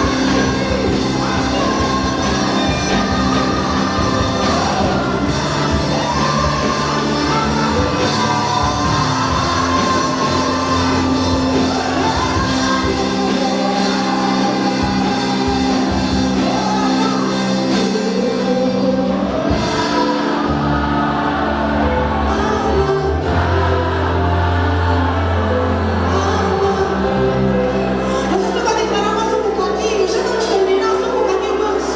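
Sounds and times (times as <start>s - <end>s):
gospel band playing live: 0.0s - 31.9s
voices singing: 0.0s - 31.9s.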